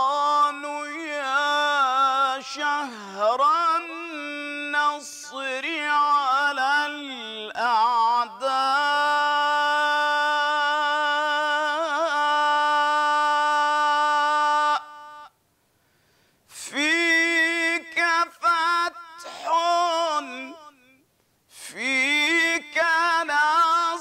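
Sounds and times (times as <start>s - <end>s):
man singing devotional chant: 0.0s - 15.4s, 16.5s - 24.0s.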